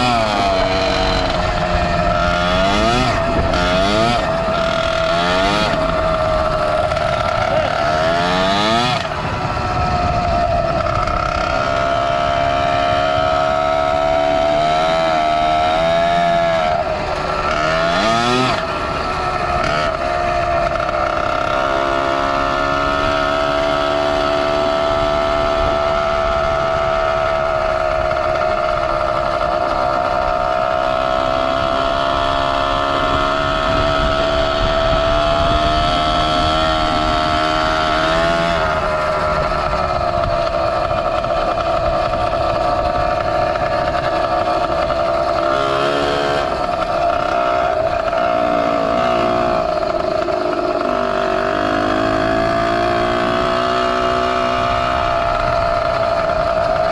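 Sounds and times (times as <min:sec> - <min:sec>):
two-stroke engine revving: 0:00.0 - 0:56.9
wind on microphone: 0:00.0 - 0:56.9.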